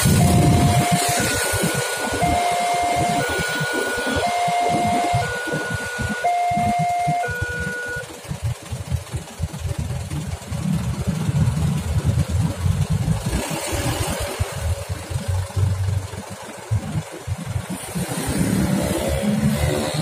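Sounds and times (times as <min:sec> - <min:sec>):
car and truck idling: 0:00.0 - 0:20.0
low traffic rumble: 0:00.0 - 0:20.0
motorcycle engines idling: 0:00.0 - 0:20.0.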